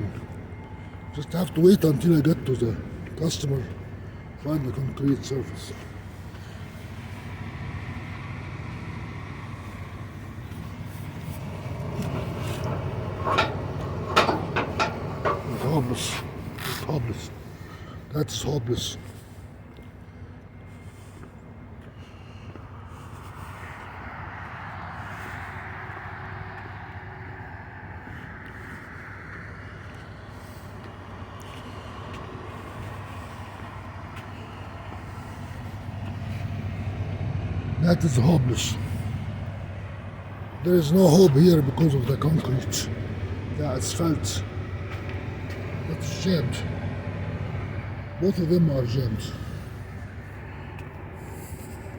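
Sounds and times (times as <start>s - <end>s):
diesel truck engine idling: 0.0s - 51.9s.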